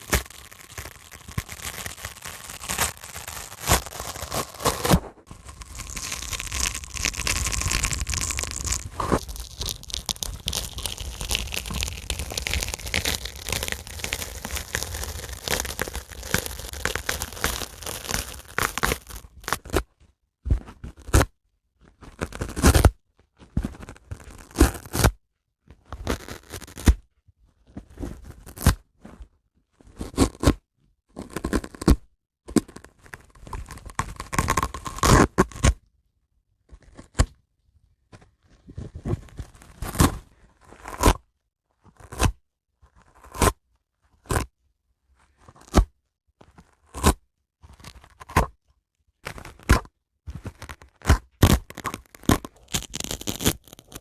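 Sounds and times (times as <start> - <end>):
dry sponge ripping and crunching: 0.0 - 25.2, 25.8 - 35.8, 38.4 - 44.6, 45.2 - 54.0.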